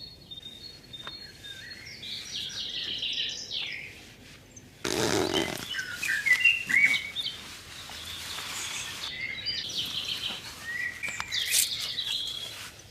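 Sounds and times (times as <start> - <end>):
birds chirping and whistling: 0.0 - 4.0, 4.9 - 12.7
background hiss: 0.3 - 12.9.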